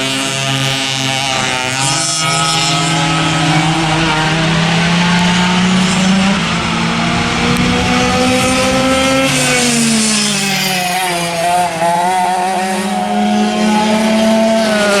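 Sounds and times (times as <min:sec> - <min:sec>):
kart engines at high revs: 0:00.0 - 0:15.0.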